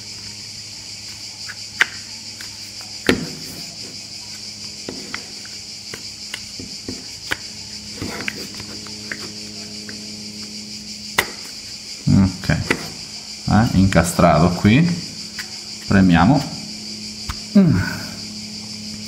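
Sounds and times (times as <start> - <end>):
steady high-pitched hiss: 0.0 - 19.0.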